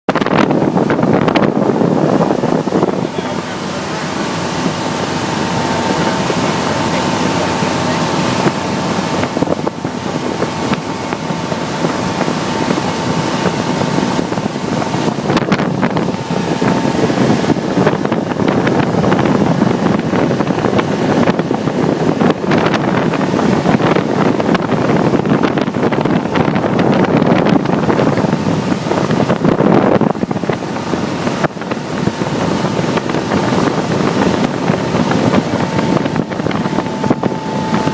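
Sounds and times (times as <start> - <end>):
rushing water: 0.1 - 37.9
speedboat engine: 0.1 - 37.9
wind buffeting microphone: 0.1 - 37.9.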